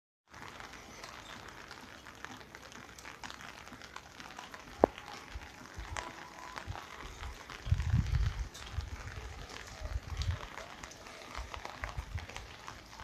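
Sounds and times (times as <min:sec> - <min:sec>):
faint outdoor background noise: 0:00.3 - 0:13.0.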